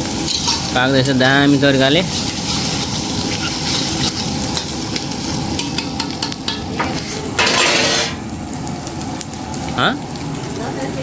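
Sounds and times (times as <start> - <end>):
meat sizzling while frying: 0.0 - 11.0.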